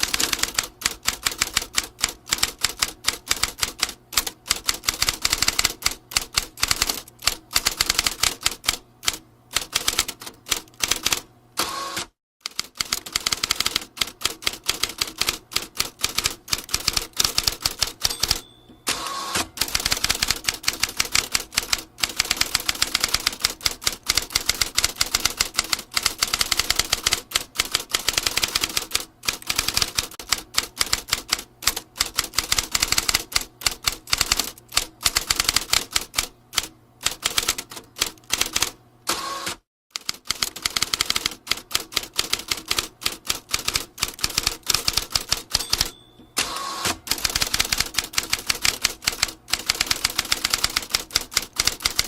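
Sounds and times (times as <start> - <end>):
typewriter keystroke clacks: 0.0 - 11.2, 12.4 - 18.5, 19.5 - 38.8, 39.9 - 46.1, 47.1 - 52.0.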